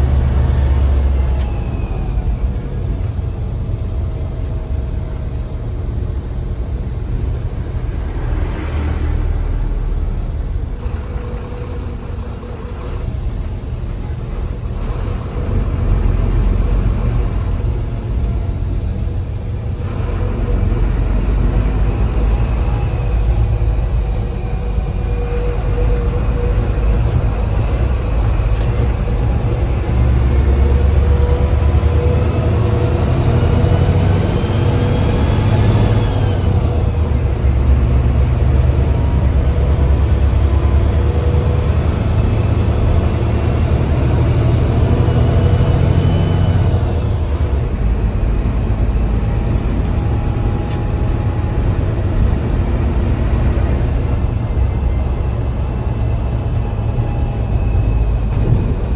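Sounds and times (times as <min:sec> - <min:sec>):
turbocharger whistling: 0:00.0 - 0:05.4, 0:07.0 - 0:58.9
bus diesel engine rumbling: 0:00.0 - 0:58.9.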